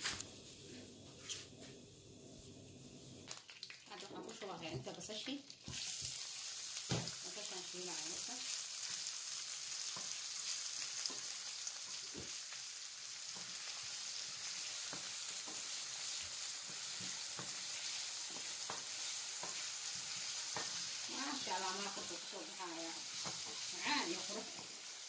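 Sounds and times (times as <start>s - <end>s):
onions sizzling in hot oil: 1.2s - 25.0s.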